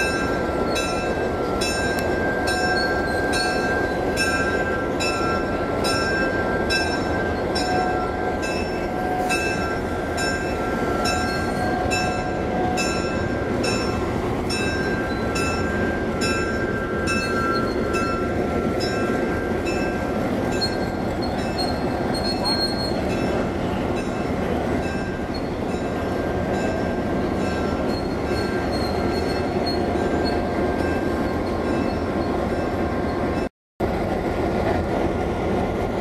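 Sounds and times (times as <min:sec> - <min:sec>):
locomotive bell ringing: 0:00.0 - 0:33.5
diesel locomotive engines idling: 0:00.0 - 0:36.0.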